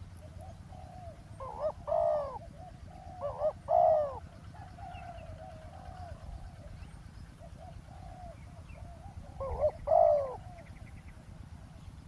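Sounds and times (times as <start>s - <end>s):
dove cooing: 0.0s - 10.9s.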